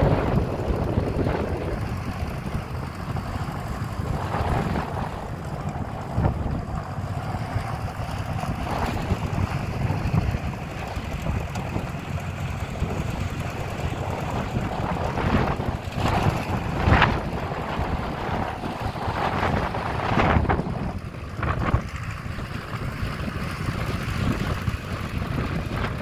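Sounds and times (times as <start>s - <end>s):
distant tractor engine: 0.0s - 26.0s
wind buffeting microphone: 0.0s - 26.0s.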